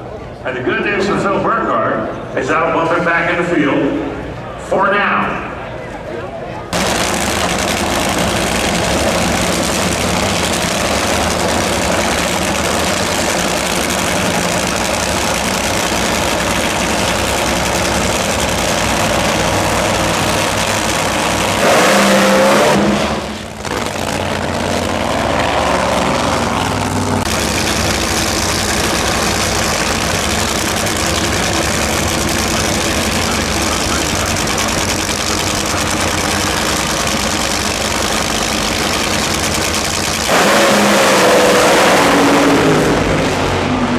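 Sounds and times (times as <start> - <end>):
race car engines running: 0.0 - 43.9.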